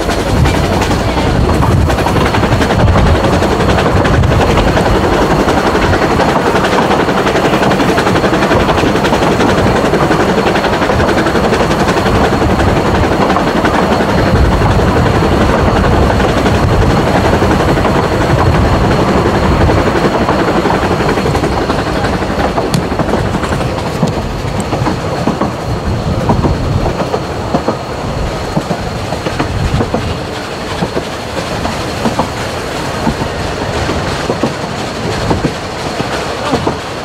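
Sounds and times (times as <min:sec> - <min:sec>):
carriage wheels on track: 0:00.0 - 0:37.0
steam locomotive exhaust beat: 0:00.0 - 0:37.0.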